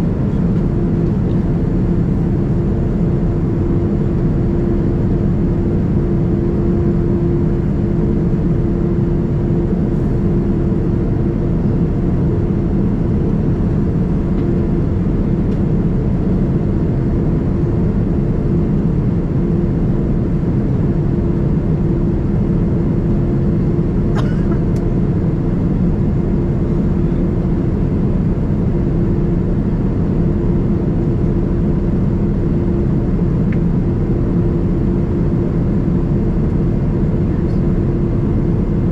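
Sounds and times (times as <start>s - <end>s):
airplane engine drone in cabin: 0.0s - 38.9s.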